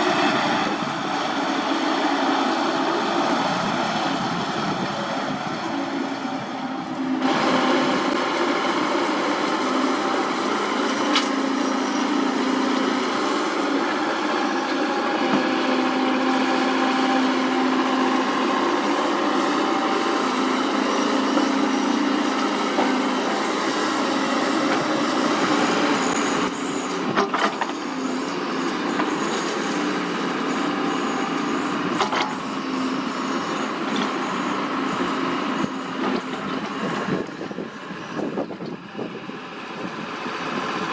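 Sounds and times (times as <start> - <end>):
excavator diesel engine drone: 0.0 - 40.9.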